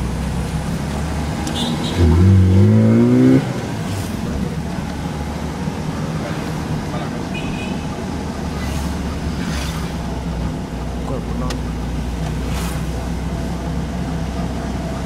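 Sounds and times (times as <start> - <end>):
car engine idling: 0.0 - 2.4, 3.5 - 15.0.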